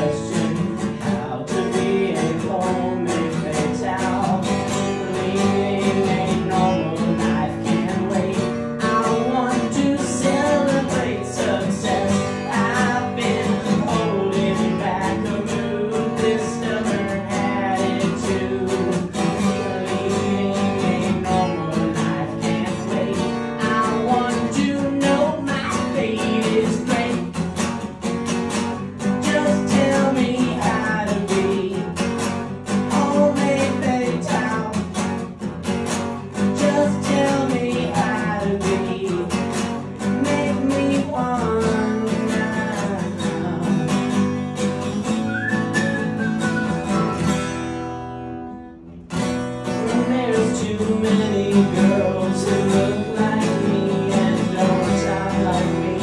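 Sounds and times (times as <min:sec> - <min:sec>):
man singing: 0:00.0 - 0:35.4, 0:36.2 - 0:47.5, 0:49.6 - 0:56.0
acoustic guitar strummed: 0:00.0 - 0:56.0.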